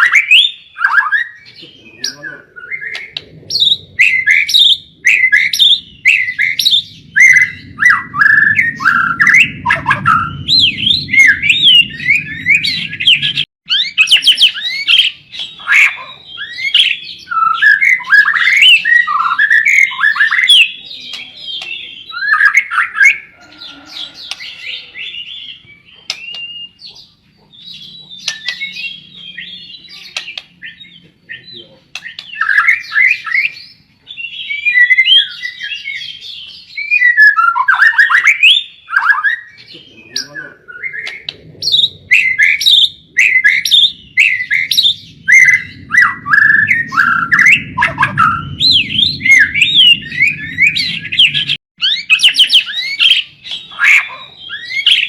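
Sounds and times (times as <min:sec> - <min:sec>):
bird chirps and whistles: 0:00.0 - 0:23.3, 0:24.2 - 0:27.0, 0:27.6 - 0:55.0.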